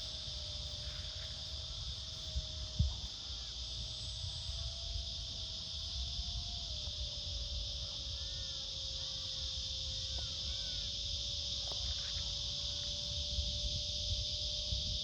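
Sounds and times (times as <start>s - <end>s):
faint steady hum: 0.0s - 15.0s
insects chorus: 0.0s - 15.0s
wind rumbling on microphone: 0.0s - 15.0s.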